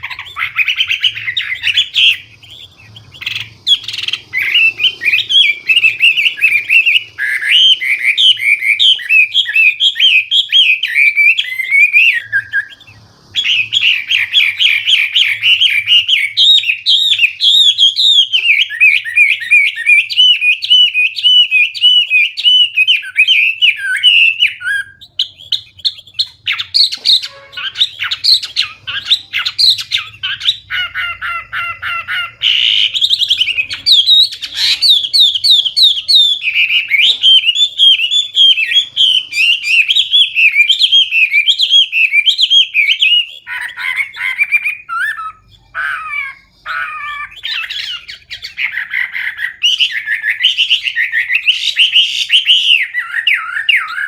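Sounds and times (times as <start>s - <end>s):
songbird singing whistled phrases: 0.0s - 54.0s.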